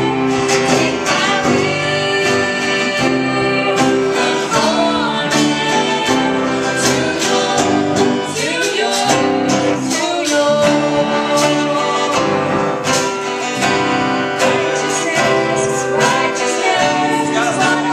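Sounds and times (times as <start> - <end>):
acoustic guitar: 0.0 - 17.9
bass guitar: 0.0 - 17.9
electric guitar: 0.0 - 17.9
woman singing: 0.0 - 17.9.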